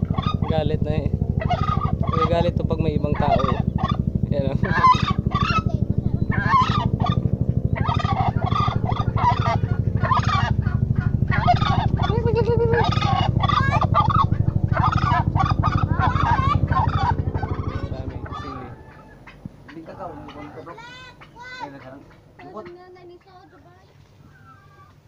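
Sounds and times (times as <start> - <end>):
turkey gobbling: 0.0 - 0.6, 1.4 - 25.0
low pulsing hum: 0.0 - 25.0.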